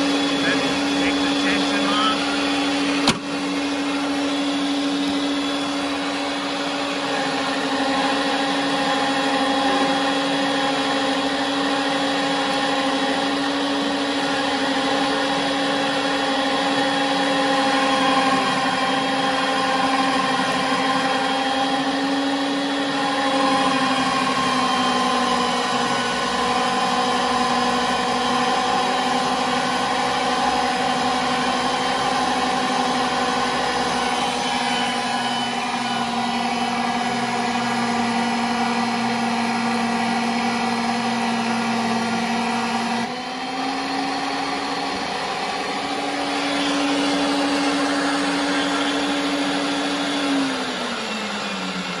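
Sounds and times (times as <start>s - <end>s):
pipe-threading machine humming: 0.0s - 52.0s.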